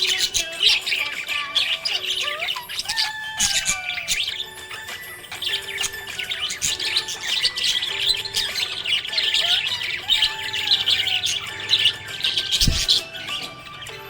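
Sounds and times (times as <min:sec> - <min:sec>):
parrot gliding calls: 0:00.0 - 0:14.0
parrots chirping and chattering: 0:00.0 - 0:14.0.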